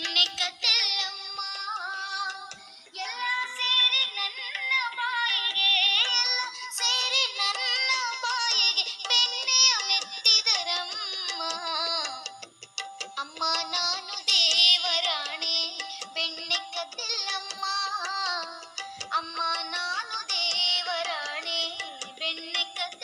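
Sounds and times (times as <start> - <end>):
high-pitched singing voice: 0.0 - 12.5, 13.2 - 23.0
light music: 0.0 - 23.0.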